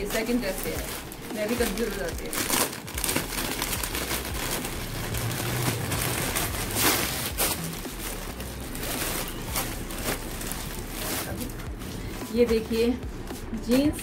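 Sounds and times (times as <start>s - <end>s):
clothing and plastic packaging rustling: 0.0s - 14.0s.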